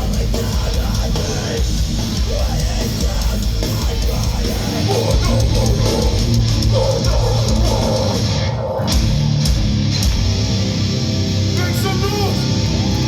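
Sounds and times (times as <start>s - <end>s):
bass: 0.0s - 13.0s
distorted guitars: 0.0s - 13.0s
drum kit: 0.0s - 13.0s.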